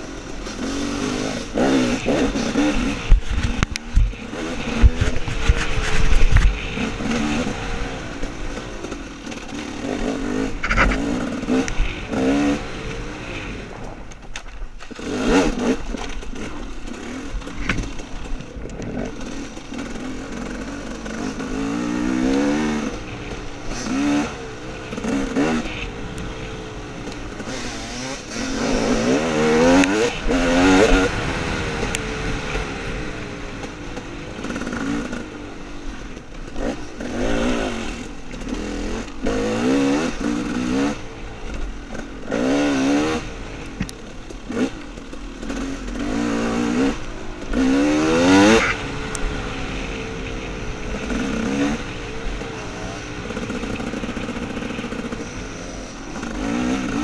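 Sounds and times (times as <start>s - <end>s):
dirt bike engine revving: 0.0s - 14.1s, 14.8s - 57.0s.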